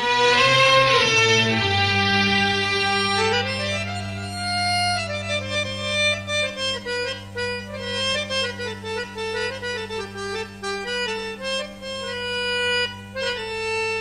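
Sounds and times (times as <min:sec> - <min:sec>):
steady low drone: 0:00.0 - 0:12.4
ornamented instrumental melody: 0:00.0 - 0:14.0.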